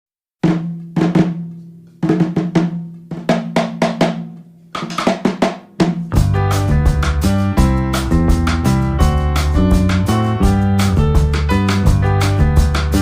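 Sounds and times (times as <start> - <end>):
drum hits: 0.4 - 13.0.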